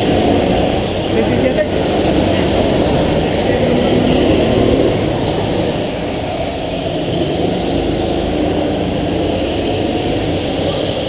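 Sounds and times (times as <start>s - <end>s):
go-kart engines droning: 0.0s - 11.0s.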